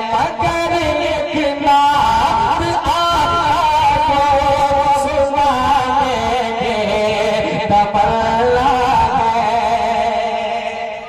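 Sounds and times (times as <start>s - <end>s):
man singing devotional song: 0.0s - 11.0s.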